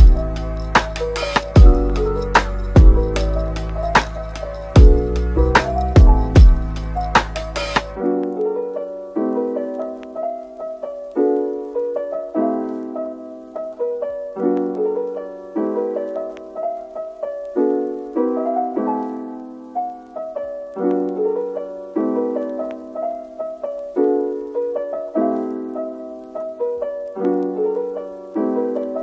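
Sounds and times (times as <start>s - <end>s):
gentle piano piece: 0.0s - 29.0s.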